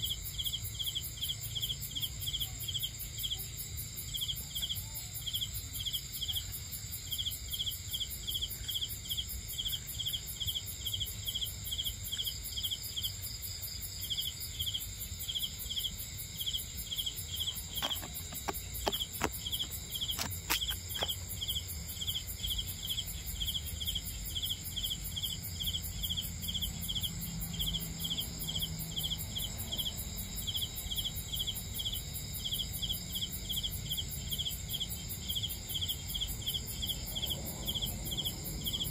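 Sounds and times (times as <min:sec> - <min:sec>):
crickets trilling and chirping: 0:00.0 - 0:38.9.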